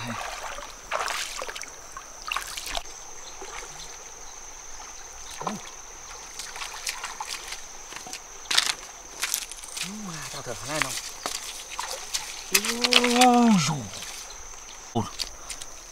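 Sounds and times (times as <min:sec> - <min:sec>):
person wading through water: 0:00.0 - 0:15.9.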